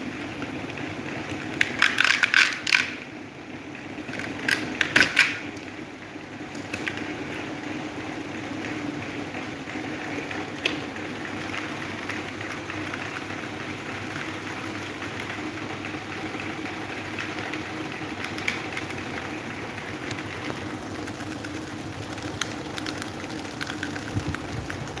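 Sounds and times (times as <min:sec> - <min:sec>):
electric fan running: 0:00.0 - 0:25.0.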